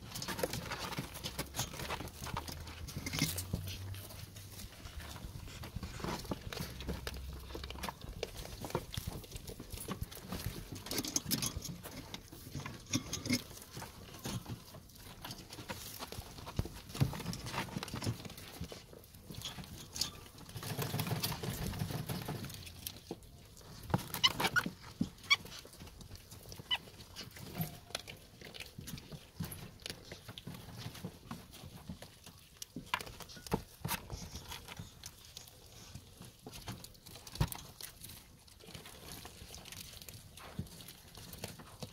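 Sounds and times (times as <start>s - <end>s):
animals crunching and tearing meat: 0.0s - 41.9s.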